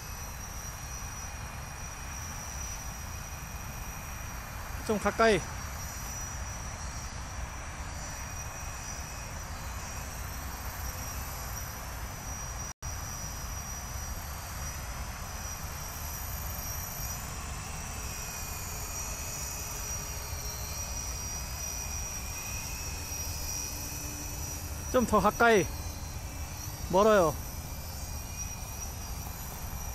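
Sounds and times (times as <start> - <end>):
multirotor motors whining: 0.0 - 29.9.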